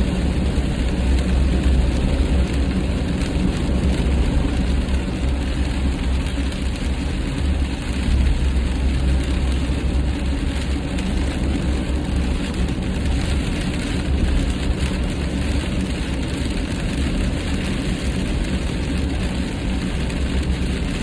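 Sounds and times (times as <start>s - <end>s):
rain spattering on windshield: 0.0s - 21.0s
road and wind noise in car: 0.0s - 21.0s.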